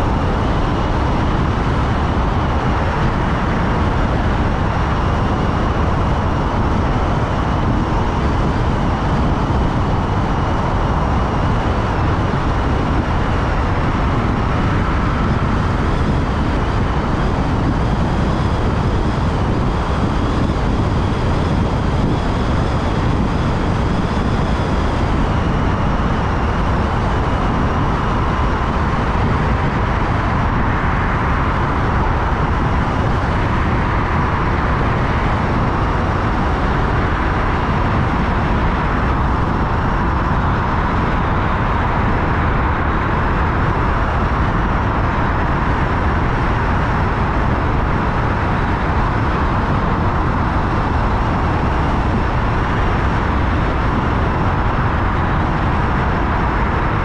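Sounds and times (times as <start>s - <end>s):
car driving in tunnel: 0.0s - 57.0s
steady whine: 0.0s - 57.0s.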